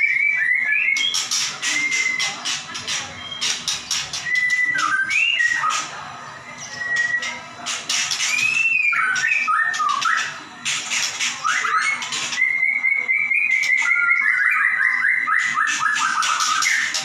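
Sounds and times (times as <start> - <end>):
bird singing whistled phrases: 0.0 - 2.4, 3.2 - 5.9, 6.6 - 7.4, 8.2 - 10.4, 11.4 - 17.0.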